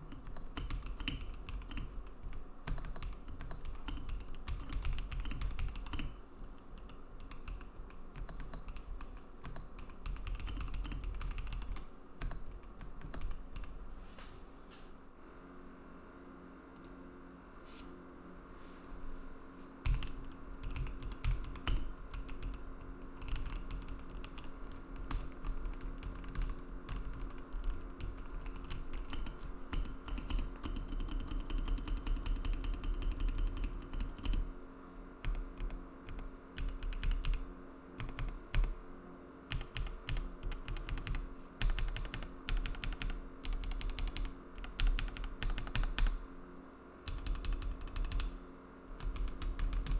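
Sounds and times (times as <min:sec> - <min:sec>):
typing on keyboard: 0:00.0 - 0:06.2, 0:06.8 - 0:13.8, 0:19.8 - 0:34.4, 0:35.2 - 0:38.8, 0:39.5 - 0:46.2, 0:47.0 - 0:49.9.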